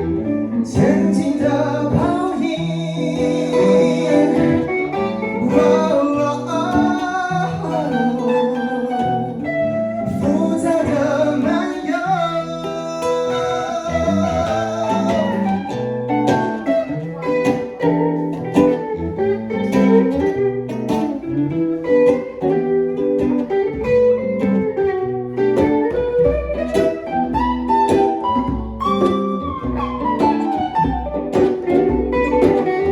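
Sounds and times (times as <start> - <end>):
acoustic and electric guitars jamming: 0.0 - 32.9
wavering guitar lead note: 0.0 - 32.9.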